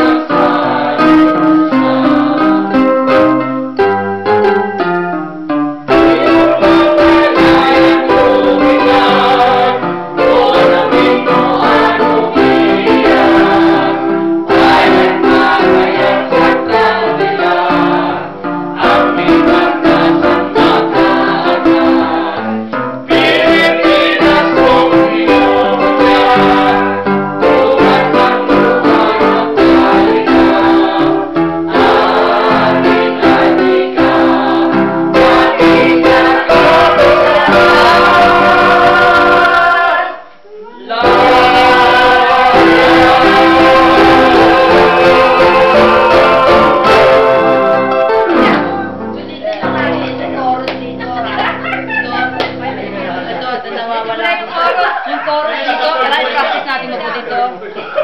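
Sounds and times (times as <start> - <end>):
choir singing: 0.0 - 5.0, 5.9 - 56.8.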